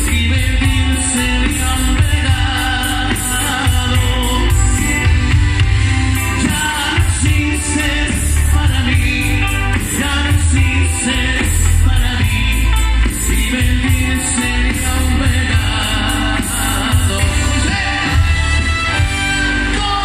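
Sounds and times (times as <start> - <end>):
live band through pa: 0.0 - 20.0
man singing lead vocal: 0.0 - 20.0.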